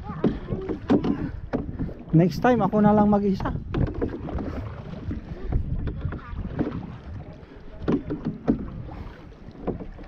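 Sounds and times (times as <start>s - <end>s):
paddles splashing in water: 0.0s - 10.0s
wind rumble on microphone: 0.0s - 10.0s.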